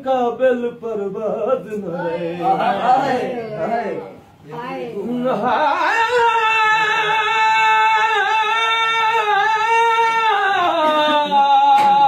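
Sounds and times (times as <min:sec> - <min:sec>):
man singing unaccompanied: 0:00.0 - 0:04.2, 0:04.9 - 0:12.0.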